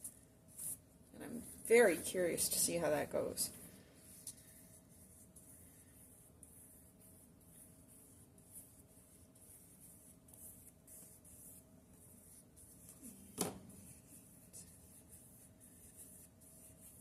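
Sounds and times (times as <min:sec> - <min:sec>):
brush strokes on paper: 0:00.1 - 0:17.0.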